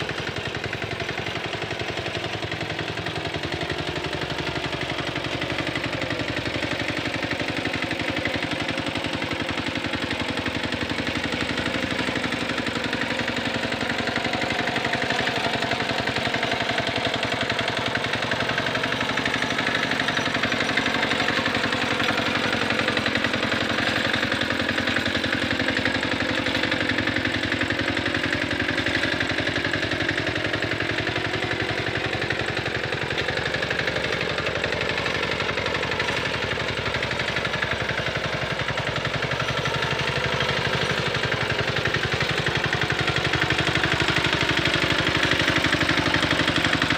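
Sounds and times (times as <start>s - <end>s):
hand tractor engine running: 0.0s - 46.9s.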